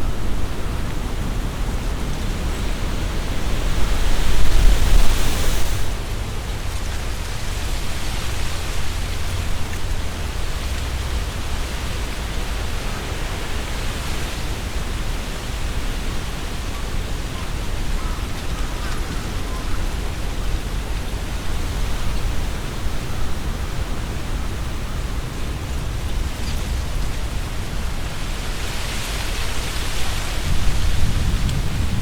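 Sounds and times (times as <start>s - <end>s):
deep wind rumble: 0.0s - 32.0s
wind rustling tree leaves: 0.0s - 32.0s.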